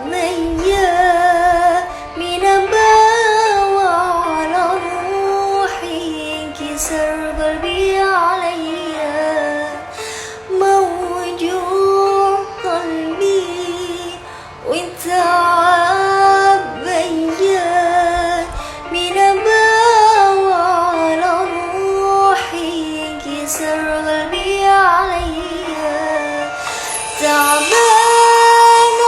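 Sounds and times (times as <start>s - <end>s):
light musical accompaniment: 0.0s - 29.0s
woman singing with vibrato: 0.0s - 29.0s.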